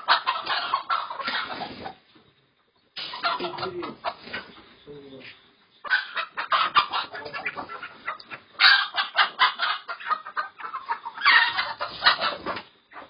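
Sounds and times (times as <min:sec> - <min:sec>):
hens clucking in chorus: 0:00.0 - 0:13.0.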